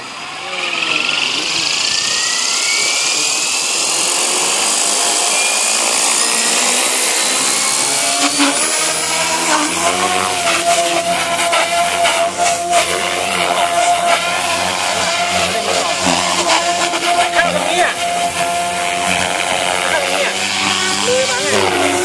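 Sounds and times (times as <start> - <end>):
model helicopter motor whine: 0.0 - 22.0.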